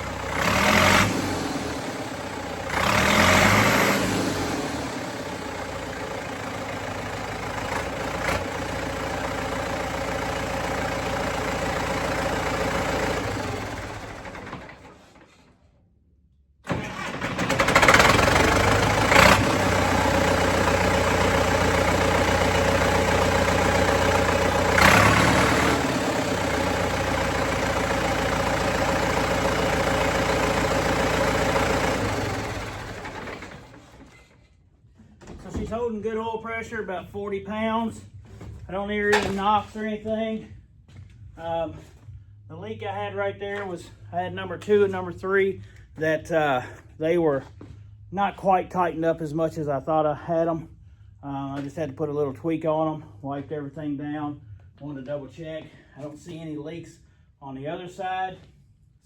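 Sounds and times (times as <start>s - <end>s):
tractor diesel engine idling: 0.0s - 15.4s, 16.6s - 34.5s, 41.2s - 57.3s.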